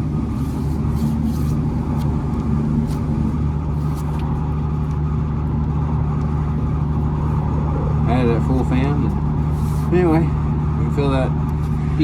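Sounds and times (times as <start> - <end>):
diesel engine running: 0.0 - 12.0
heater blower running: 0.0 - 12.0.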